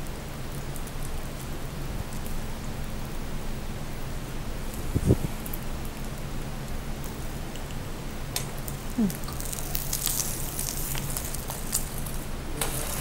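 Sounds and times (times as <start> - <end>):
omelette frying in a pan: 0.0 - 13.0.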